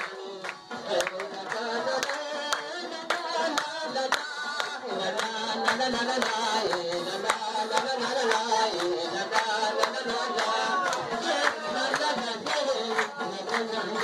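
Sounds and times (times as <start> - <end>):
group clapping in time: 0.0 - 14.0.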